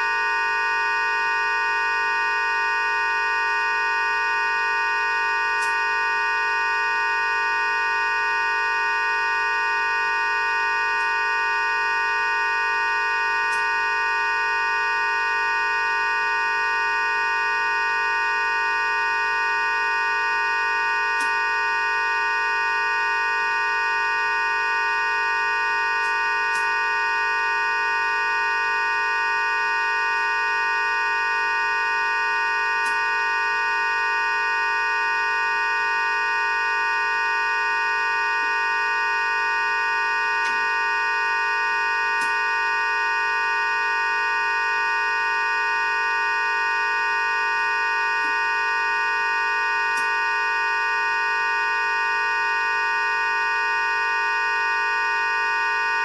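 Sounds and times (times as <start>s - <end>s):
drone of held tones: 0.0s - 56.0s.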